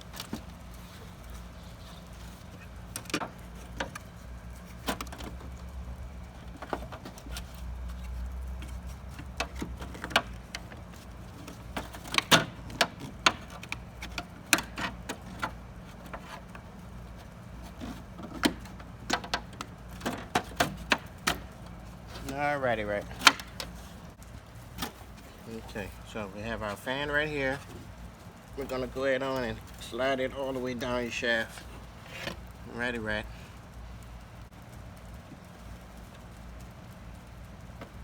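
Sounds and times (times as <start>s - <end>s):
clicks and knocks of plastic parts: 0.0s - 38.0s
low steady hum: 0.0s - 38.0s.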